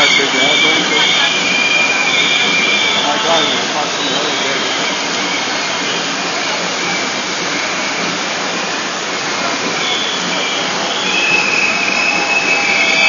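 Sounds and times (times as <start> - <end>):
crowd hubbub: 0.0 - 13.0.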